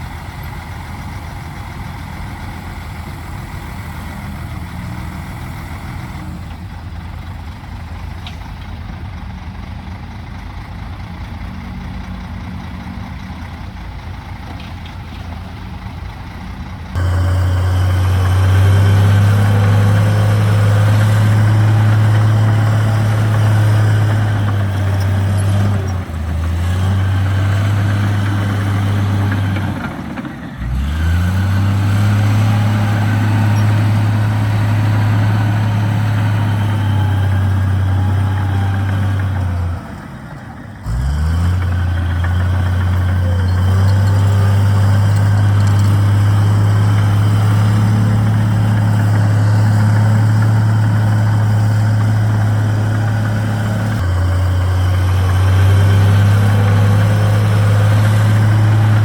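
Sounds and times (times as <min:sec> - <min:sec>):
diesel engine at high throttle: 0:00.0 - 0:59.0.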